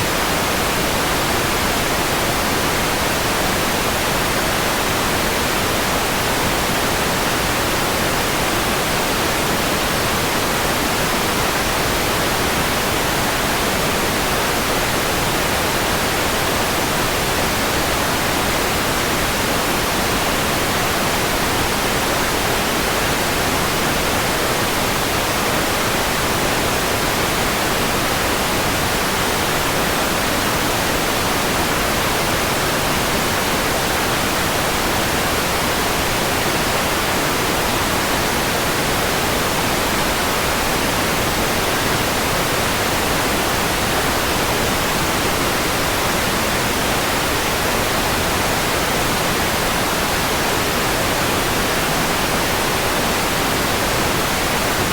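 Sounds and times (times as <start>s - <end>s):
steady white noise: 0.0s - 54.9s.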